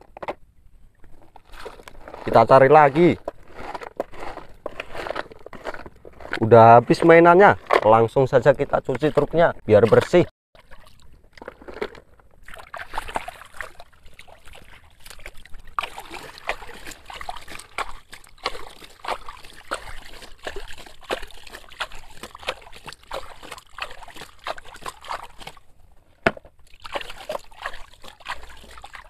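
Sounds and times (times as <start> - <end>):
water sloshing and splashing: 1.0 - 29.0.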